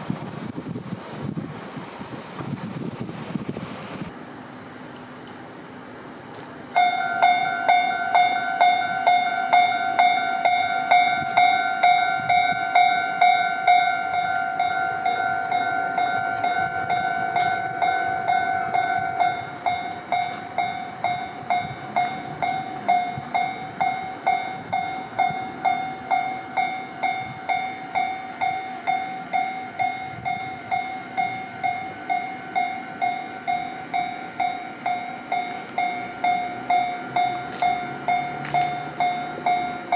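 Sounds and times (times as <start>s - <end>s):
level crossing warning bell: 6.7s - 39.9s.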